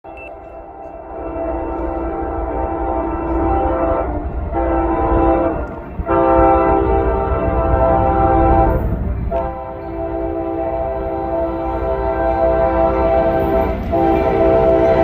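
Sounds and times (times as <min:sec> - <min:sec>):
locomotive air horn blasts: 0:00.1 - 0:15.0.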